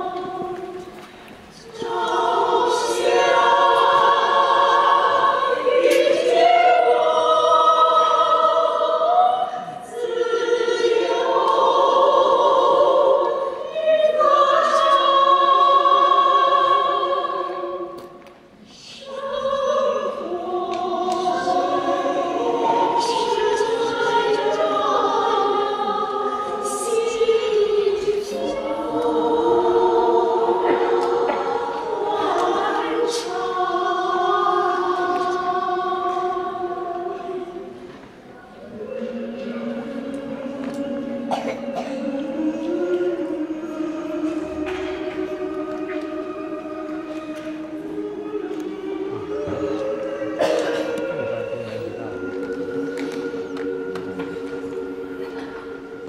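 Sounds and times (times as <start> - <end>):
women's choir singing a cappella: 0.0 - 56.0.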